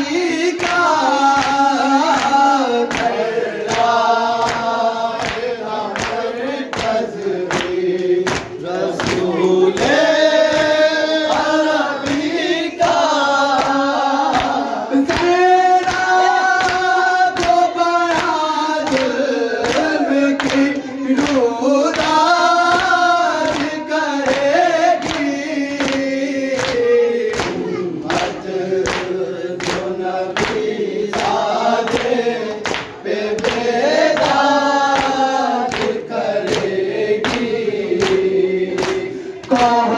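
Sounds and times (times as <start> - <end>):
men singing a lament in unison: 0.0 - 39.9
rhythmic chest-beating slaps: 0.0 - 39.9.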